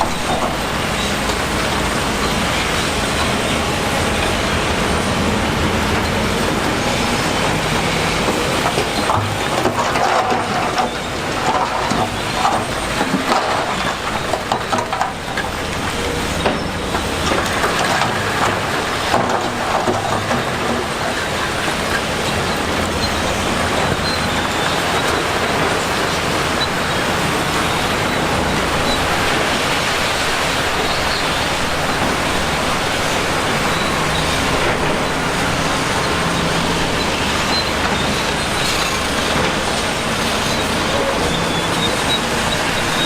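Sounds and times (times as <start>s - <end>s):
construction machinery engine drone: 0.0s - 43.0s.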